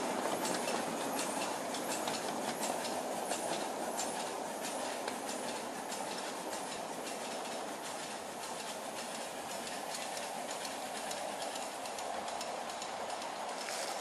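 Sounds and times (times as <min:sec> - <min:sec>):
wheels clicking over rails: 0:00.0 - 0:14.0.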